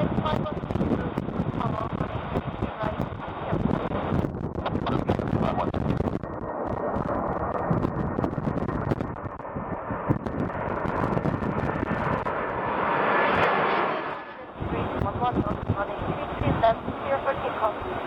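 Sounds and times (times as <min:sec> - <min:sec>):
wind buffeting microphone: 0:00.0 - 0:13.6, 0:14.4 - 0:18.0
jet engines rumbling: 0:00.0 - 0:18.0.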